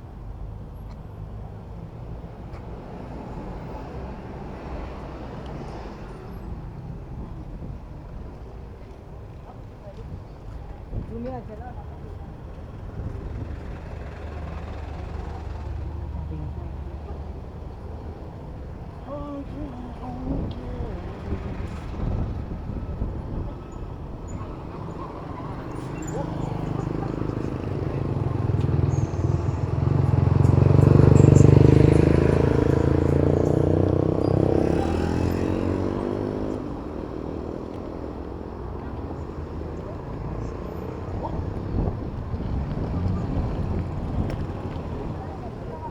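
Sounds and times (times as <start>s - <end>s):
street noise: 0.0s - 45.9s
vehicle engines rumbling: 0.0s - 45.9s.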